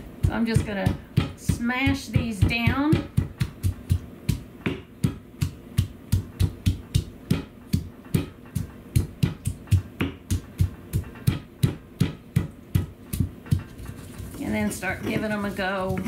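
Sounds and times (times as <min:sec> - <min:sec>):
pestle pounding in stone mortar: 0:00.0 - 0:16.0.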